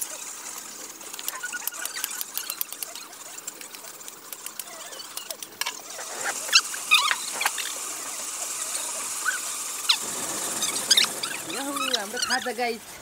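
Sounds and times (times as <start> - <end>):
steady high hiss: 0.0 - 13.0
small animal squeaky chirps: 1.2 - 10.0, 10.6 - 12.5.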